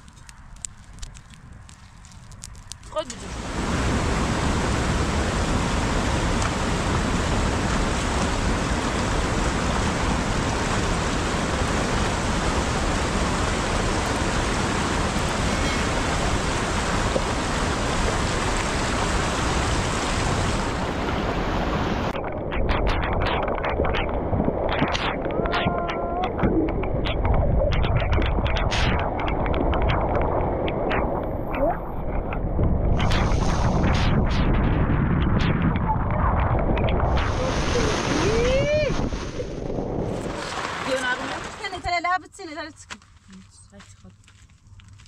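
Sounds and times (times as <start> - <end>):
steady rushing noise: 2.4 - 42.0.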